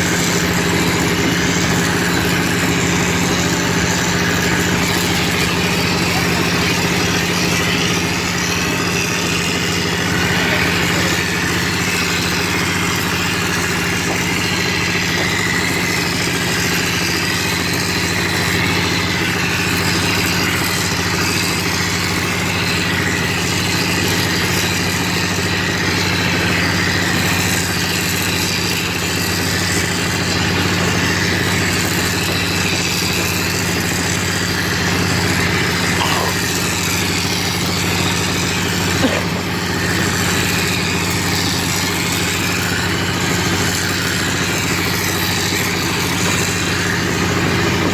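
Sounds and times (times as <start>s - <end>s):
machine motor humming: 0.0s - 47.9s.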